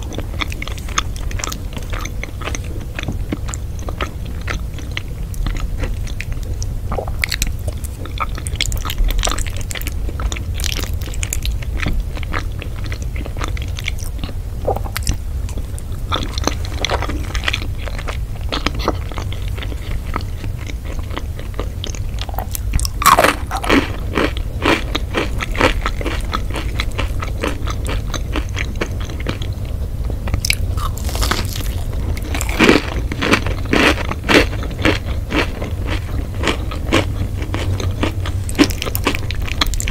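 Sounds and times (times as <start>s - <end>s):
chewing crunchy food: 0.0s - 39.9s
steady low hum: 0.0s - 39.9s.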